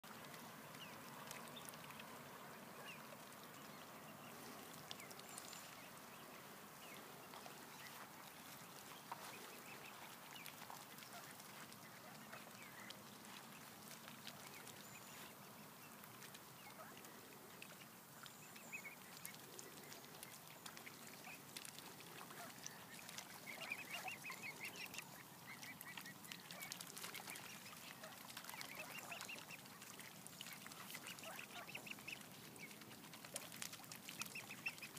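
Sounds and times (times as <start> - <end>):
faint waterfowl calls: 0.1 - 34.9.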